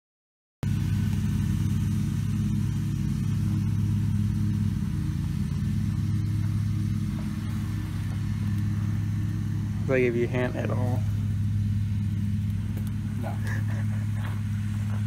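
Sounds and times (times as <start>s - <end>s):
engine idling: 0.6s - 15.0s.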